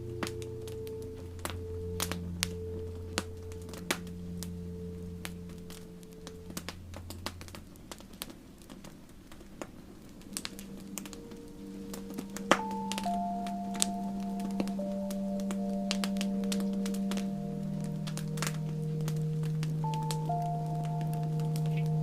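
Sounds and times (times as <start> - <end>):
soft ambient music tones: 0.0 - 22.0
campfire crackling and popping: 0.1 - 22.0.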